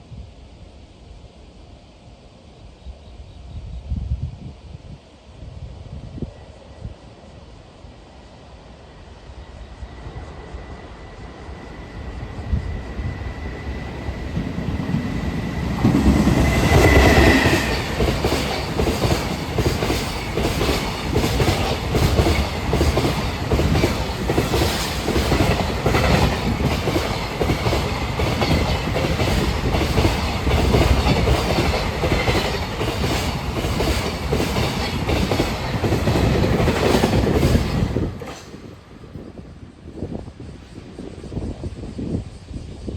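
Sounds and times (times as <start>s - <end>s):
freight train passing: 0.0s - 42.9s.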